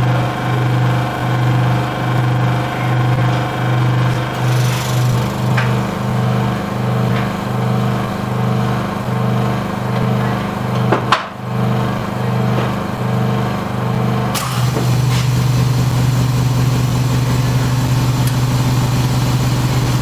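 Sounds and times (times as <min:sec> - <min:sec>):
machine motor humming: 0:00.0 - 0:20.0.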